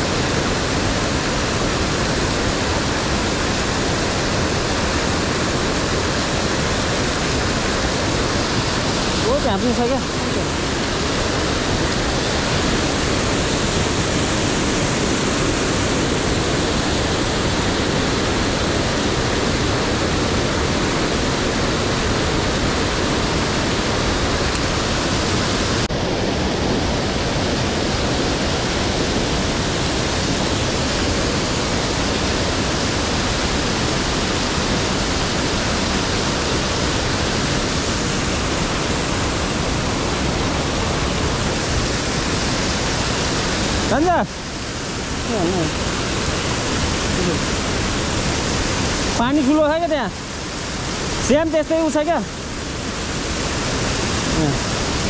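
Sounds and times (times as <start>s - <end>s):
waterfall and rushing water: 0.0s - 55.0s.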